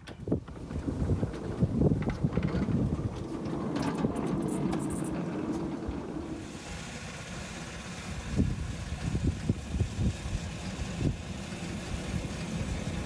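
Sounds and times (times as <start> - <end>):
small locomotive engine running: 0.5 - 13.0.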